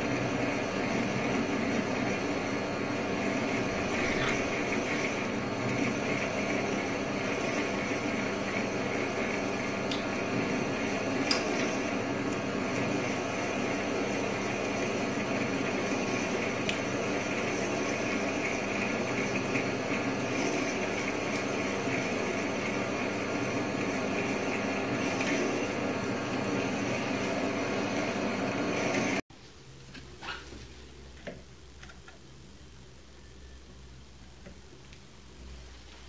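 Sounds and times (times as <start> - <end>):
lathe running with whine: 0.0 - 29.2.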